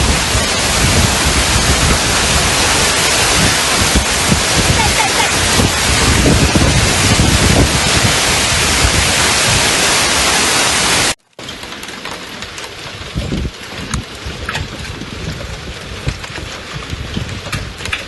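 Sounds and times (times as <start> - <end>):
steady rain: 0.0 - 18.0
torrential rain pouring: 0.0 - 18.0.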